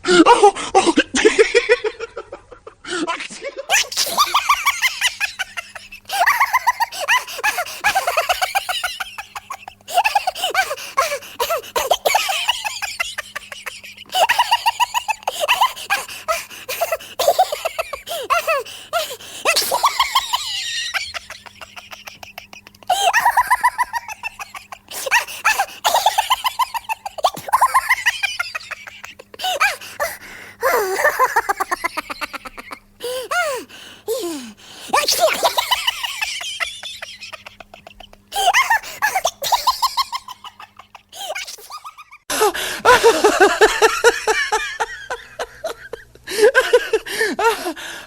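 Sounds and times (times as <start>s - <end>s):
person laughing: 0.0s - 47.9s.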